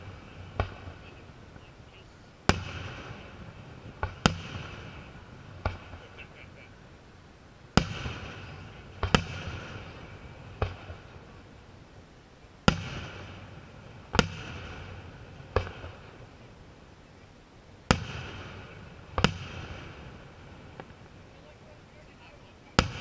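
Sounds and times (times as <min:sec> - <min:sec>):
firework shells booming: 0:00.0 - 0:01.8, 0:02.4 - 0:06.7, 0:07.7 - 0:11.6, 0:12.6 - 0:16.5, 0:17.8 - 0:23.0.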